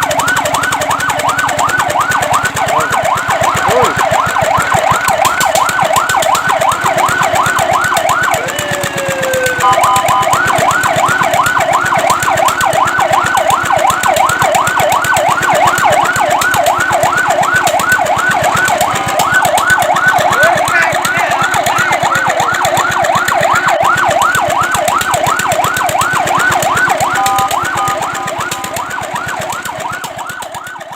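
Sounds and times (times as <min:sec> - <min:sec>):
fire truck siren yelp: 0:00.0 - 0:30.9
two-note siren tone: 0:00.0 - 0:30.9.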